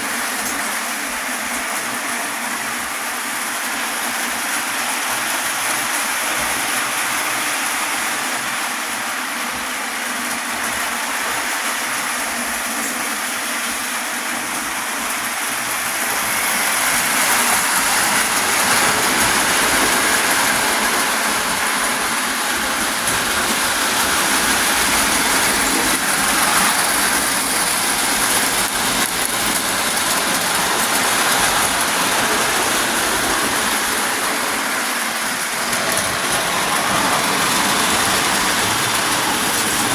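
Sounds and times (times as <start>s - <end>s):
toy train running on track: 0.0s - 39.9s.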